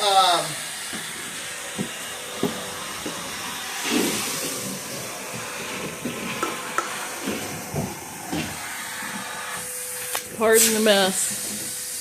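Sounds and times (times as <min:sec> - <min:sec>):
vacuum cleaner hiss: 0:00.0 - 0:12.0.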